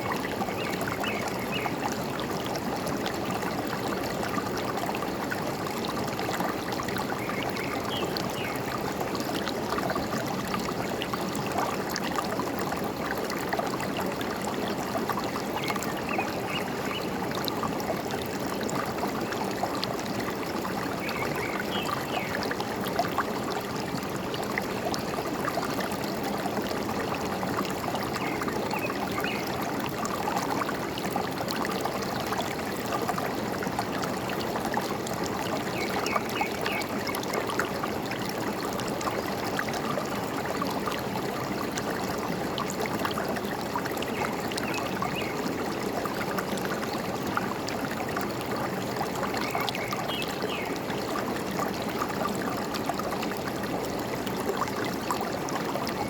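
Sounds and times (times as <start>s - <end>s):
forest stream flowing and trickling: 0.0s - 56.0s.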